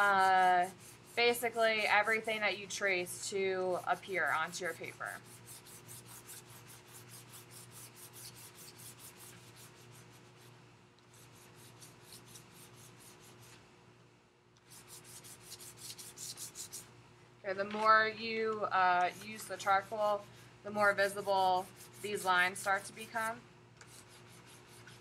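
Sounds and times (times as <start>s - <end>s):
charcoal scratching on paper: 0.0s - 13.6s, 14.6s - 16.9s, 18.9s - 25.0s.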